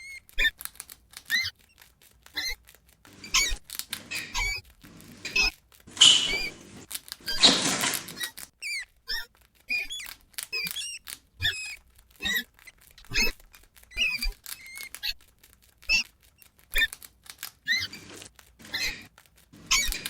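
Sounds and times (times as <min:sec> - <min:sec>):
rats squeaking: 0:00.0 - 0:20.0
clicks and scratches: 0:00.2 - 0:20.0.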